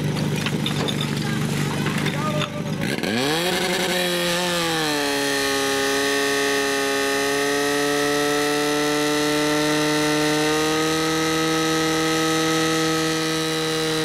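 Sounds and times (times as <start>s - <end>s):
fire pump engine running at high revs: 0.0s - 14.0s.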